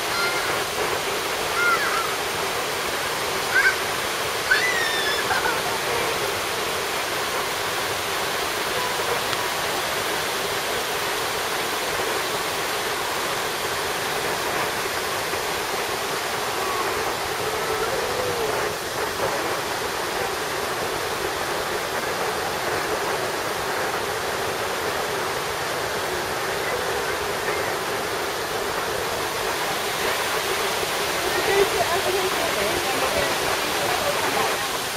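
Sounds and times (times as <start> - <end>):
waterfall cascading over rocks: 0.0 - 34.9.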